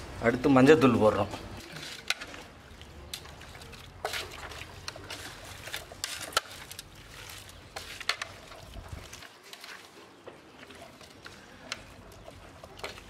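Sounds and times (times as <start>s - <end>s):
wet squelching of hand mixing: 0.8s - 13.0s.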